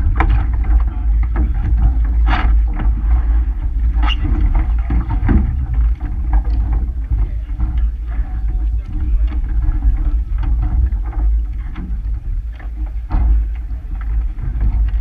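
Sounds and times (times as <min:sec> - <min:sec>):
oars knocking on boat: 0:00.0 - 0:15.0
wind rumbling on microphone: 0:00.0 - 0:15.0.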